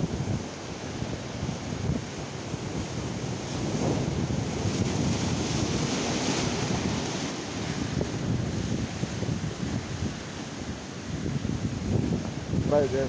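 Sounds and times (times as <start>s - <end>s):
surf breaking on rocky shore: 0.0s - 13.0s
wind buffeting microphone: 0.0s - 13.0s.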